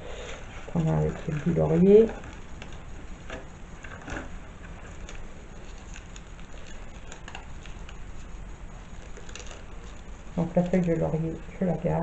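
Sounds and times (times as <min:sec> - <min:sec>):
dried leaves crumbling between fingers: 0:00.6 - 0:12.0.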